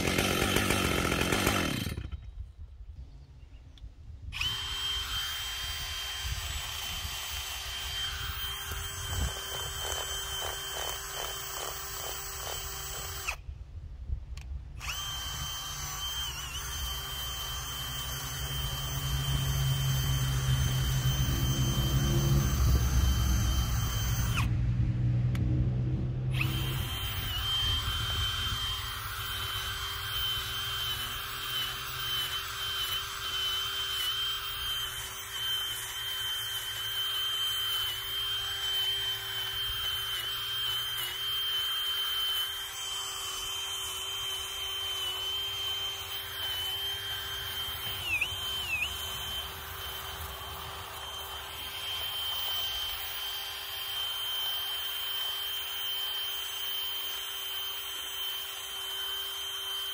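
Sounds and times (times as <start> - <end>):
chainsaw running at high revs: 0.0 - 2.3, 4.4 - 13.4, 14.8 - 24.5, 26.3 - 59.9.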